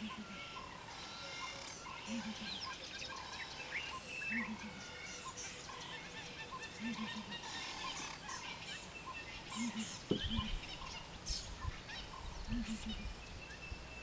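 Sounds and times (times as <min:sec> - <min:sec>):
low repeating bird call: 0:00.0 - 0:13.2
birds chirping and whistling: 0:00.0 - 0:14.0.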